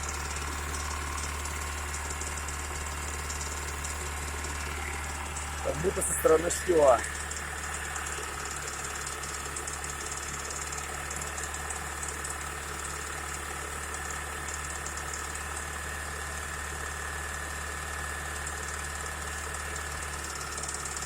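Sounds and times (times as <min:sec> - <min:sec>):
engine running with mechanical knock: 0:00.0 - 0:21.0.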